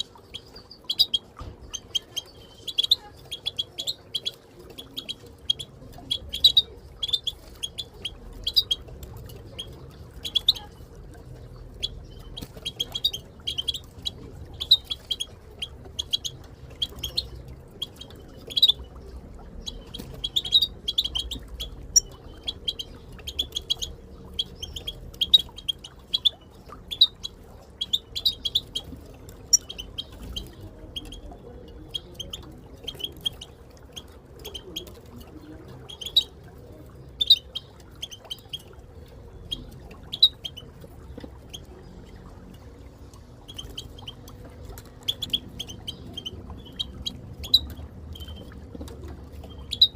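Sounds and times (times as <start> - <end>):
goldfinches chirping: 0.0 - 8.9, 11.5 - 34.9, 39.3 - 42.2, 43.4 - 44.4, 45.0 - 48.6, 49.5 - 49.9.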